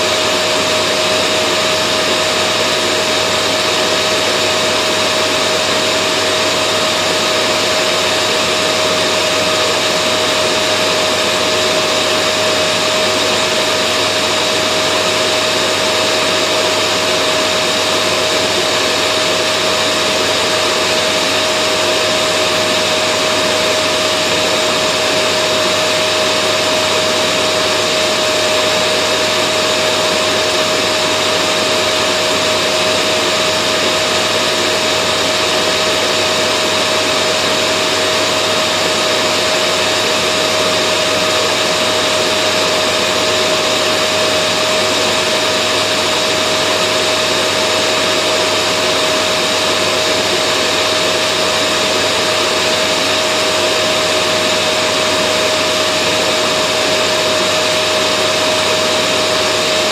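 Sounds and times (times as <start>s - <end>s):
vacuum cleaner motor running: 0.0s - 59.9s.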